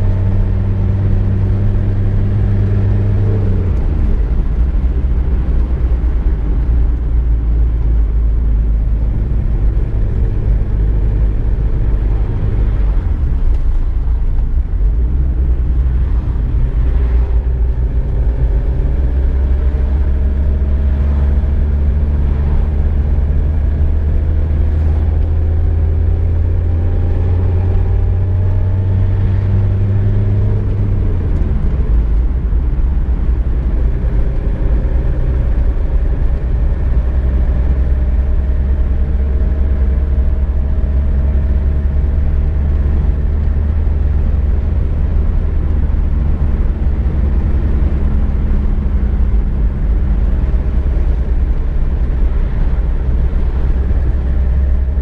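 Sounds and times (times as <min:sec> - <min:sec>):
car engine: 0:00.0 - 0:55.0
road rumble: 0:00.0 - 0:55.0.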